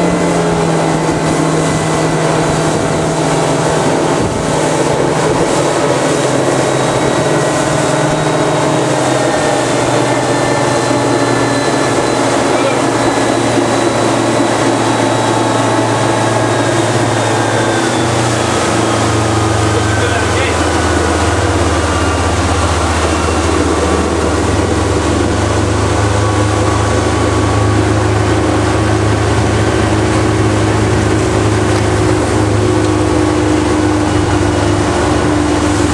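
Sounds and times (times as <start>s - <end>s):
outboard motor running: 0.0s - 35.9s.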